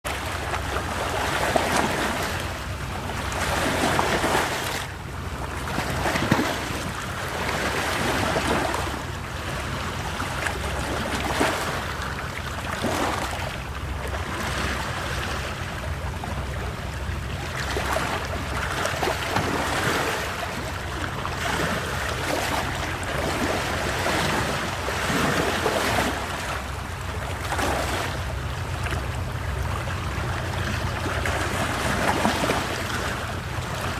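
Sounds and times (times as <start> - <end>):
sea waves washing ashore: 0.0 - 33.9.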